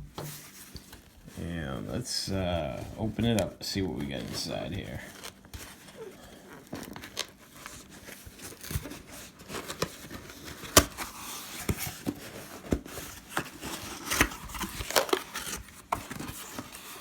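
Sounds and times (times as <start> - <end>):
cardboard being handled: 0.0 - 17.0.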